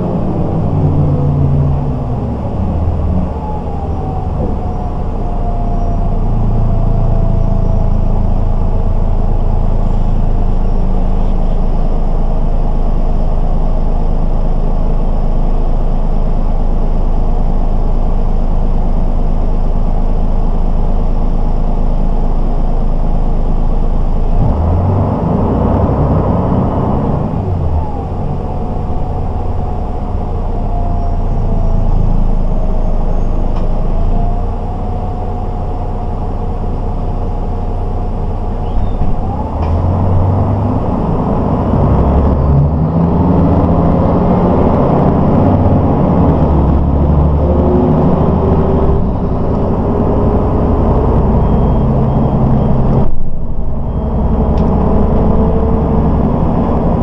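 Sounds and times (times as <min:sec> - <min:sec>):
bus diesel engine: 0:00.0 - 0:57.0
steady whine: 0:00.0 - 0:57.0.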